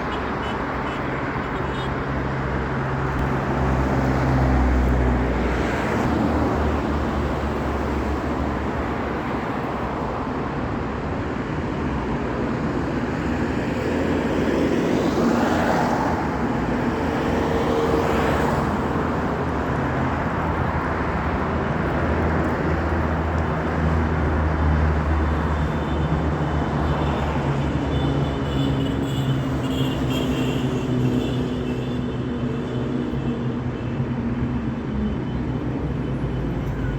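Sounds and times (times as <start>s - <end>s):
street traffic noise: 0.0s - 36.9s.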